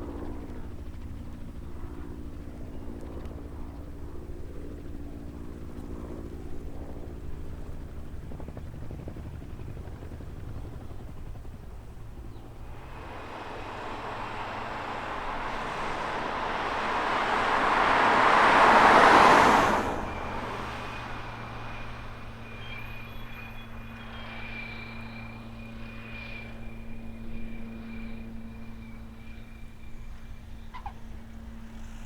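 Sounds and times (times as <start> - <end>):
light aircraft passing: 0.0 - 32.0
steady engine hum with high tone: 0.0 - 32.0.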